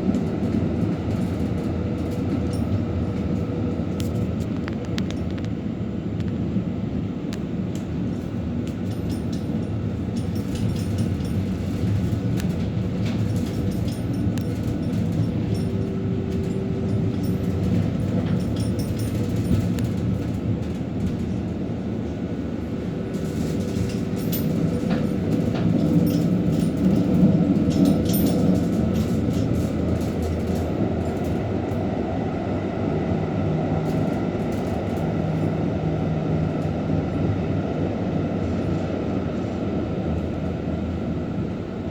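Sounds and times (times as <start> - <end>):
tram clicks: 0.0 - 6.6, 7.2 - 41.9
tram wheels rumbling on rails: 0.0 - 41.9
tram whine: 0.0 - 41.9.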